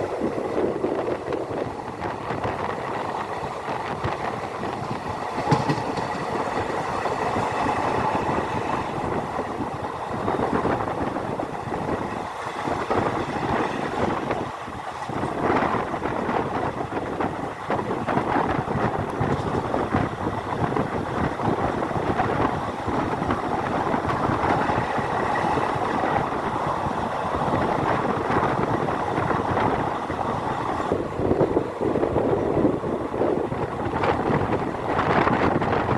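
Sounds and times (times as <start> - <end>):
train wheels rumbling on rails: 0.0 - 35.9.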